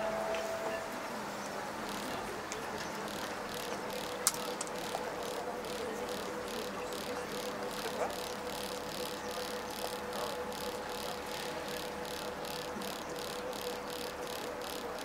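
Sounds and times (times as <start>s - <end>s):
faint steady tone: 0.0s - 15.0s
ferry engine pulsing: 0.0s - 15.0s.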